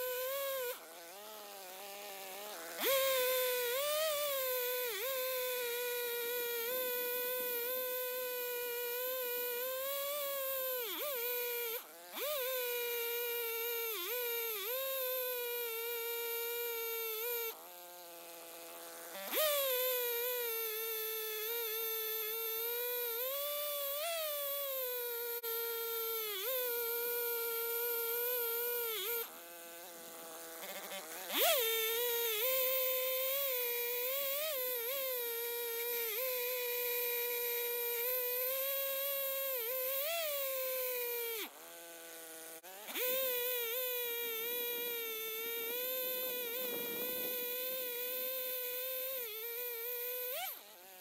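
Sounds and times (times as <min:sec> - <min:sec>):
chainsaw cutting through log: 0:00.0 - 0:51.0.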